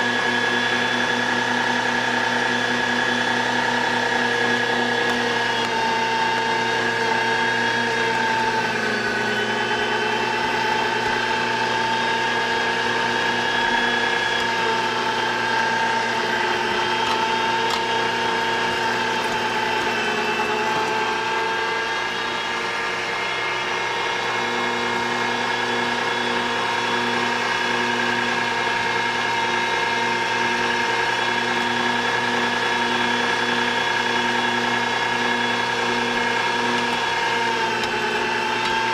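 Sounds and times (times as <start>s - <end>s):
meat grinder motor whining: 0.0s - 38.9s.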